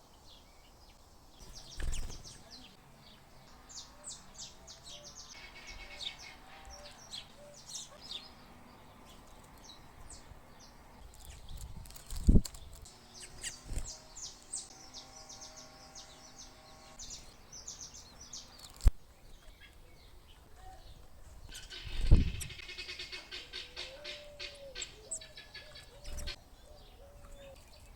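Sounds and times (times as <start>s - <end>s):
songbirds chirping: 0.0s - 27.9s.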